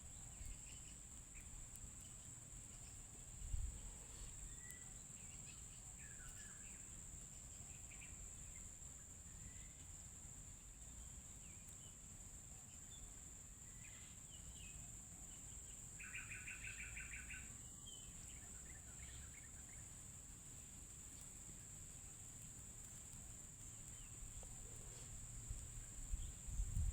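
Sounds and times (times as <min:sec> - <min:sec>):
songbird chirps: 0:00.0 - 0:26.9.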